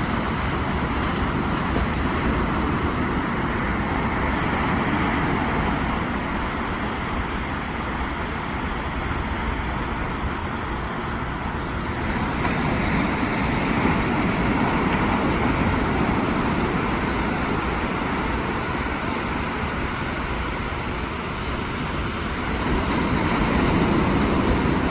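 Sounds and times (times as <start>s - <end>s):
waves breaking on beach: 0.0s - 24.9s.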